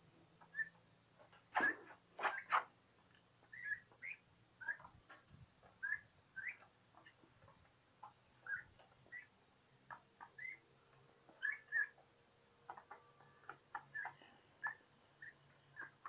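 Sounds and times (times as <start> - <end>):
young turkeys peeping: 0.4 - 2.7, 3.4 - 16.0
beaks pecking at feed dishes: 0.4 - 16.0.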